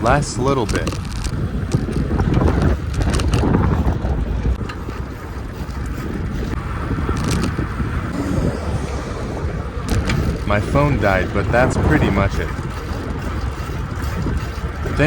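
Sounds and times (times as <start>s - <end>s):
bicycle clicks and rattles: 0.0s - 8.1s, 9.8s - 15.0s
wind buffeting microphone: 0.0s - 15.0s.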